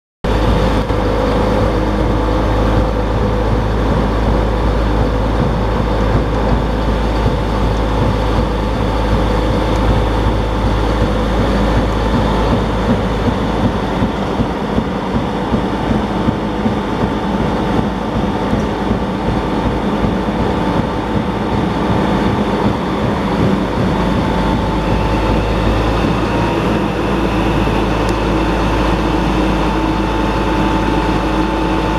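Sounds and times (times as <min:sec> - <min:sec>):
mobile crusher running: 0:00.3 - 0:31.9
whining tones: 0:00.3 - 0:31.9.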